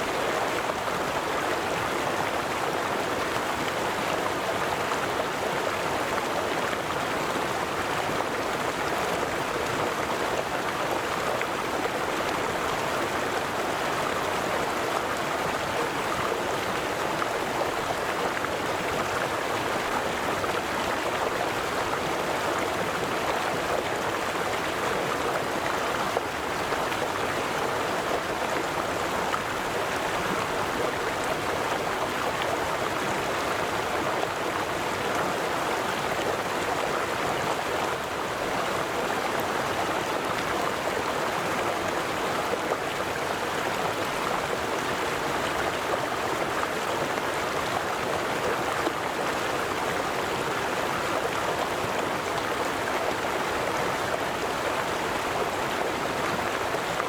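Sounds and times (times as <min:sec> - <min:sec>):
river flowing over stones: 0:00.0 - 0:57.0.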